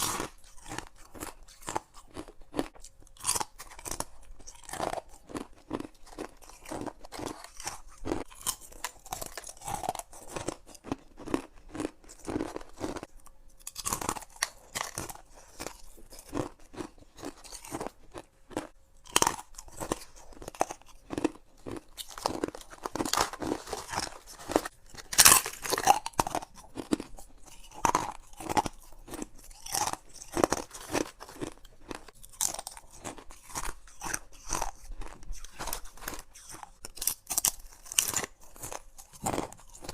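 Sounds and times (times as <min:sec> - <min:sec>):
chewing ice cubes crunching: 0:00.0 - 0:39.9.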